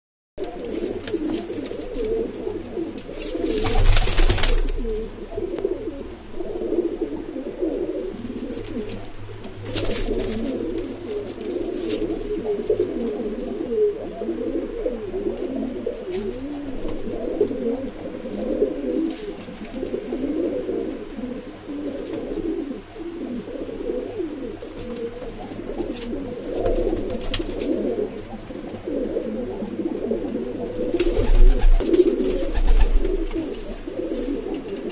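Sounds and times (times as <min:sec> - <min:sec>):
pigeons cooing: 0:00.4 - 0:34.9.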